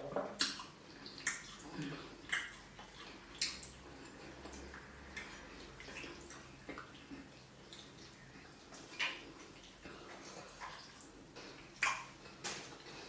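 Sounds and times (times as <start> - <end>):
wet chewing smacks and clicks: 0.4 - 13.0.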